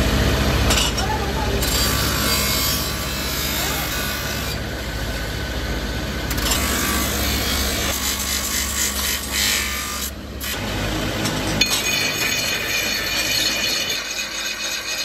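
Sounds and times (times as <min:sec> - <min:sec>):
steady motor hum: 0:00.0 - 0:15.0
abrasive wheel grinding metal: 0:00.6 - 0:15.0.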